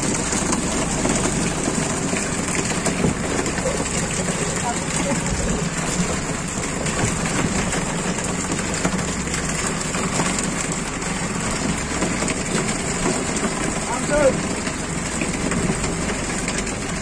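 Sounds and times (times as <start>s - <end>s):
boat engine running: 0.0s - 17.0s
rain falling: 0.0s - 17.0s.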